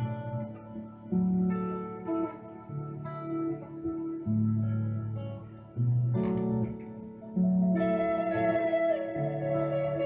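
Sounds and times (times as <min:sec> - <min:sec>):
clean electric guitar with delay: 0:00.0 - 0:10.0.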